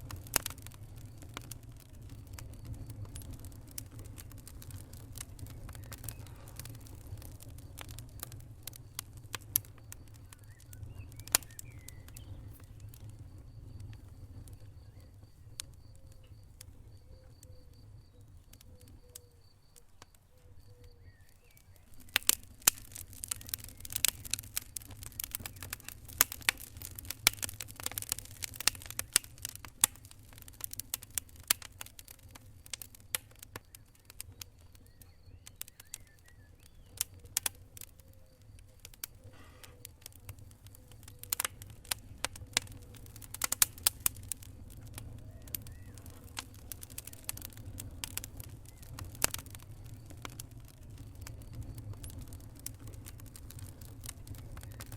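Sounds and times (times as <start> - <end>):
low rumble of flames: 0.0 - 54.9
wood fire crackling: 0.0 - 54.9.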